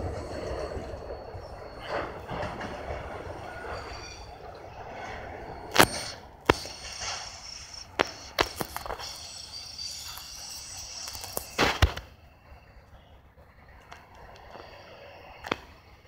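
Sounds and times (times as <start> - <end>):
freight train rolling past: 0.0 - 16.0
high wheel squeal: 0.0 - 16.0.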